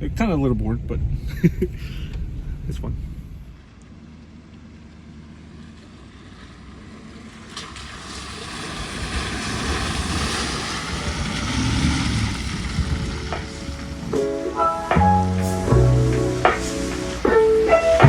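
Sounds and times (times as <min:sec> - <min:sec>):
pickup truck engine rumble: 0:00.0 - 0:18.0
tyres and wind rushing: 0:00.0 - 0:18.0.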